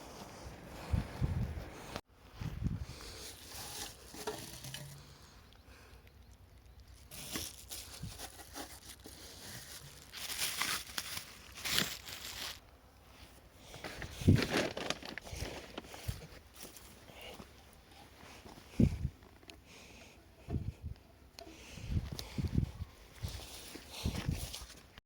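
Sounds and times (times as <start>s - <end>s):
rustling and scraping handling noises: 0.0s - 5.5s, 6.8s - 25.0s.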